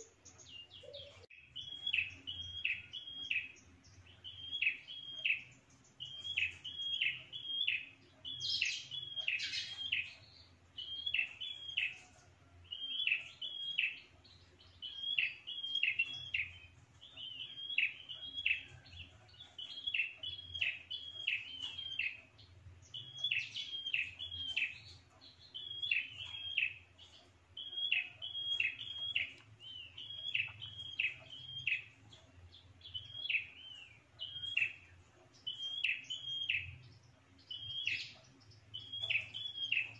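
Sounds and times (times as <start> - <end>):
songbird calling sharp notes: 0.0 - 12.0, 12.7 - 18.8, 19.6 - 39.9.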